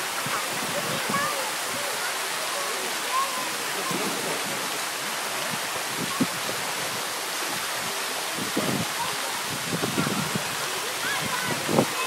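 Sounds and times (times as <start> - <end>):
churning pool water: 0.0 - 12.0.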